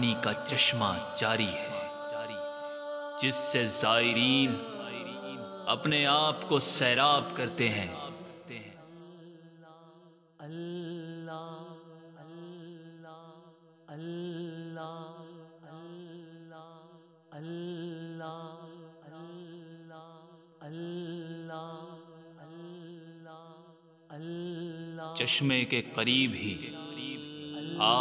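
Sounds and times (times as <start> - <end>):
person chanting: 0.0 - 28.0.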